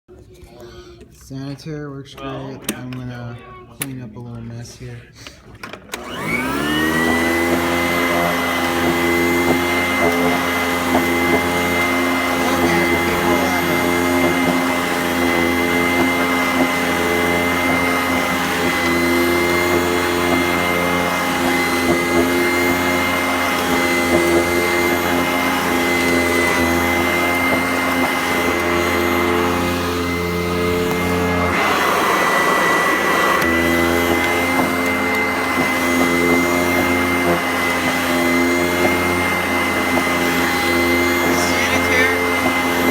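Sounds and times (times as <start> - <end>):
upright vacuum cleaner running: 5.6 - 42.9.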